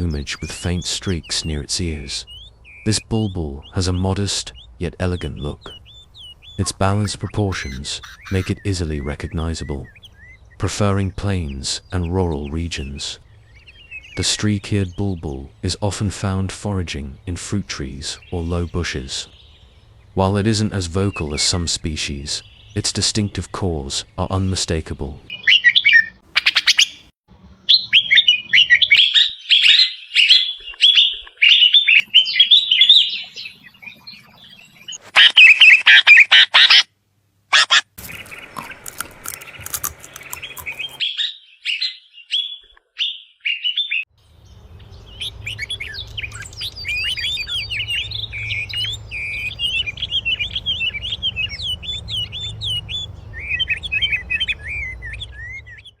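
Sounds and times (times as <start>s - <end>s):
songbirds chirping and warbling: 0.0s - 36.9s, 37.5s - 56.0s.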